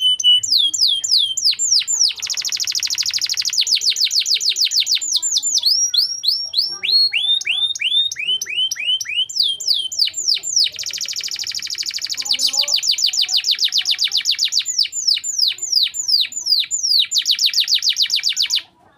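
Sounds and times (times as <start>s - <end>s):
canary singing in trills: 0.0s - 18.9s.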